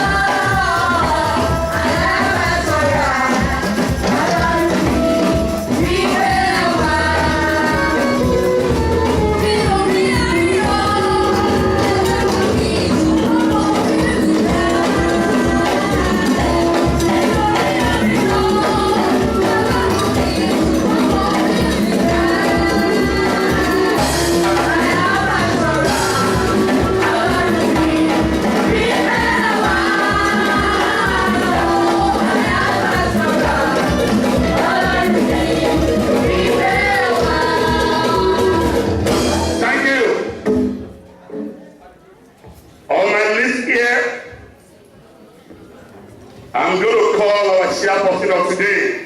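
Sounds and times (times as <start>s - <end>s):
person singing: 0.0s - 40.4s.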